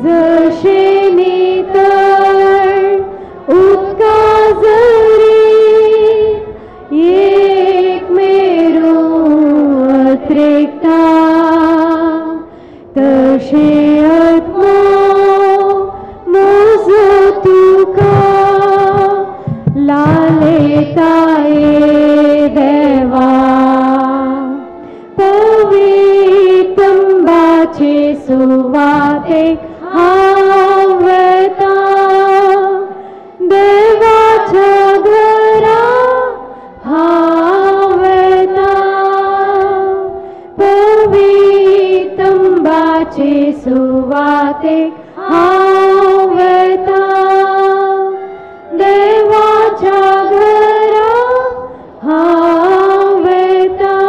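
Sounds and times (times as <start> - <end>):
woman singing a hymn: 0.0 - 54.0.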